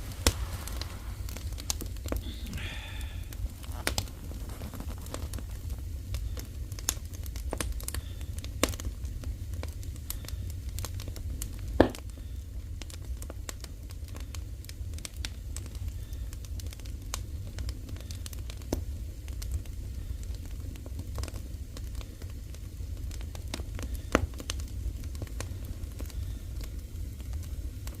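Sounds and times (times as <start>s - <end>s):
firewood crackling and popping: 0.0s - 28.0s
low furnace rumble: 0.0s - 28.0s.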